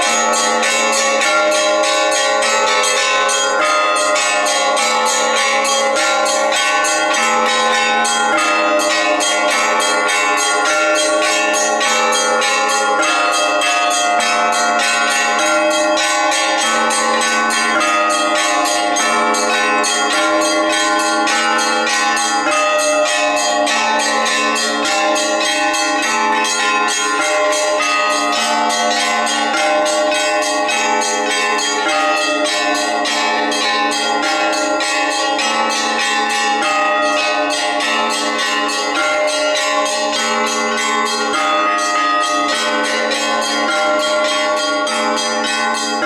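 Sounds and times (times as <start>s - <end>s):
church bells ringing a peal: 0.0s - 46.0s.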